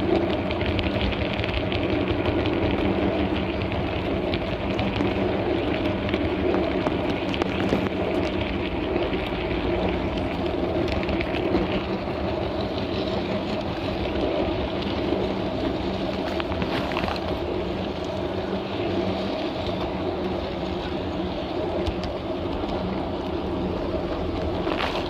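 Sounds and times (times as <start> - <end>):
model train humming: 0.0 - 24.9
wheels clicking on rails: 0.0 - 25.0.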